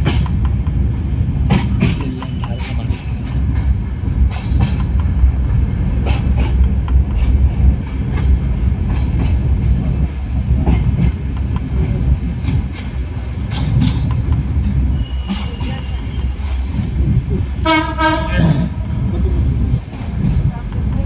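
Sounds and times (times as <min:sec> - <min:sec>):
train rumble: 0:00.0 - 0:21.0
wheels clacking on track: 0:00.0 - 0:21.0.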